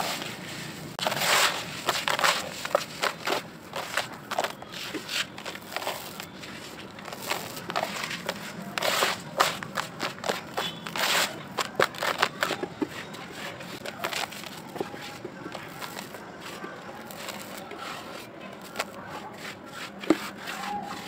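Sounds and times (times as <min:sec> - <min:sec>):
sandy clumps crunching and crackling: 0:00.0 - 0:21.0.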